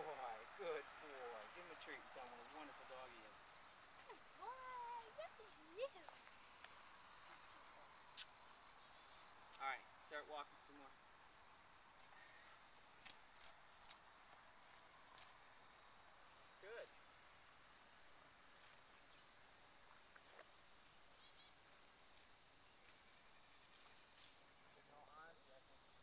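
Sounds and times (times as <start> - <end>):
faint high-pitched hiss: 0.0 - 26.0.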